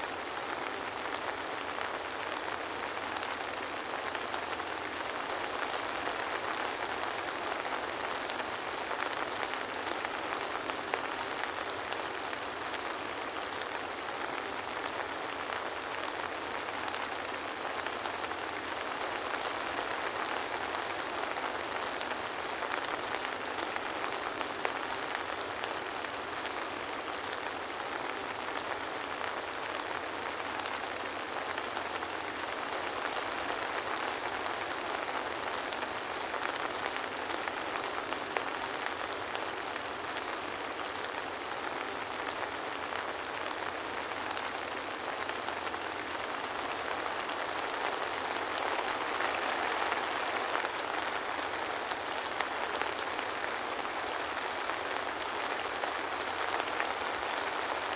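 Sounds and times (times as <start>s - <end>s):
soft rain falling: 0.0s - 57.9s.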